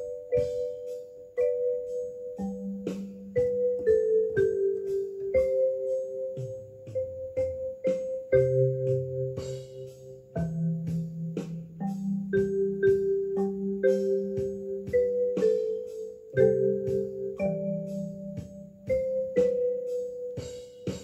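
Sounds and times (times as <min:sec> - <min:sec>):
background music with held chords: 0:00.0 - 0:21.0.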